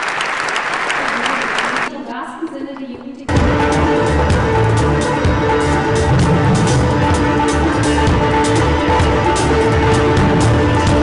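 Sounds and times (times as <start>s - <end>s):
keyboard: 1.9s - 11.0s.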